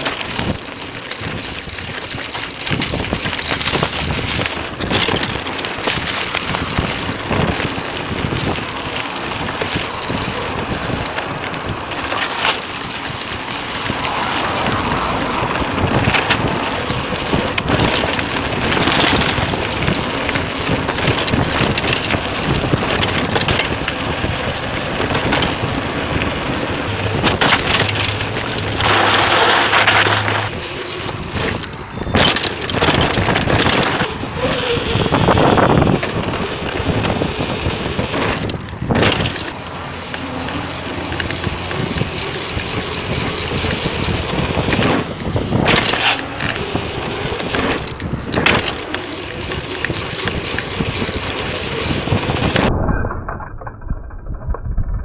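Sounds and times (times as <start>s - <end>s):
bike rattling over bumps: 0.0s - 55.0s
bike tyre noise: 0.0s - 55.0s
wind noise: 0.0s - 55.0s.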